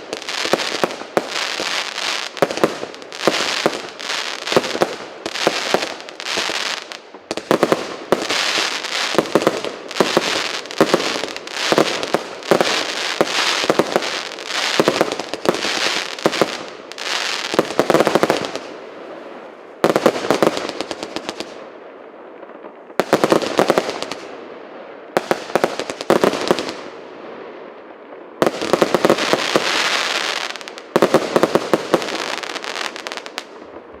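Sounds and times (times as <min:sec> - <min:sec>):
fireworks crackle: 0:00.0 - 0:24.4, 0:25.1 - 0:34.0.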